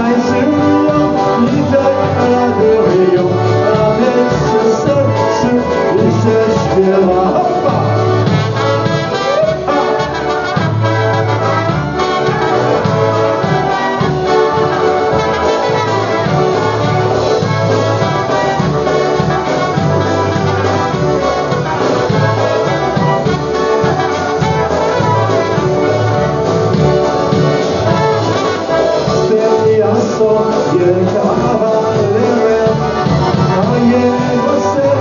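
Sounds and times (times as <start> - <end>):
horns: 0.0 - 35.0
oom-pah bass beat: 0.0 - 35.0
polka band playing: 0.0 - 35.0.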